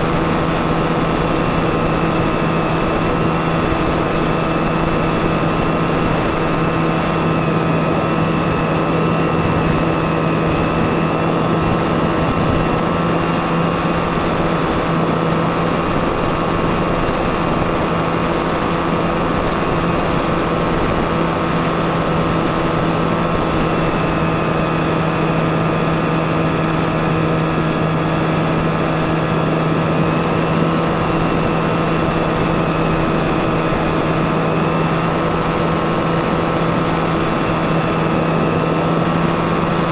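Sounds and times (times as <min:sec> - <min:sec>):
electric motor propeller hum: 0:00.0 - 0:39.9.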